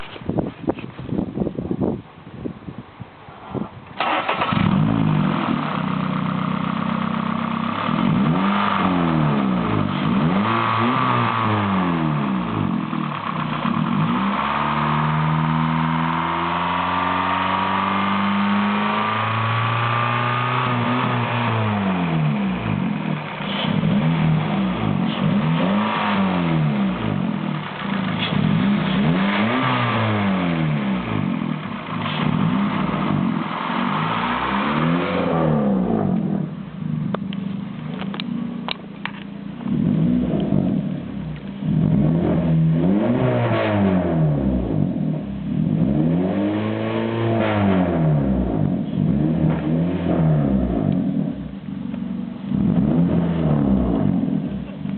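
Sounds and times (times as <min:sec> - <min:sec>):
car engine revving: 0:04.0 - 0:54.9.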